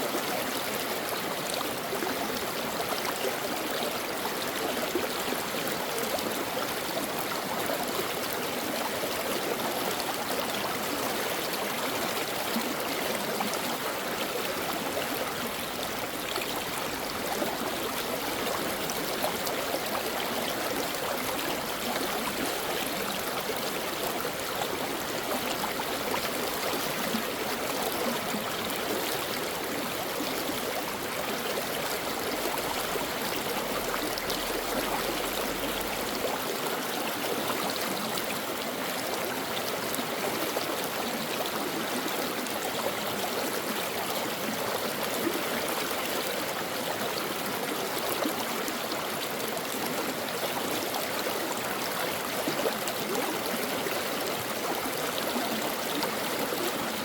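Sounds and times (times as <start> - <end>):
brook water running over rocks: 0.0 - 57.0.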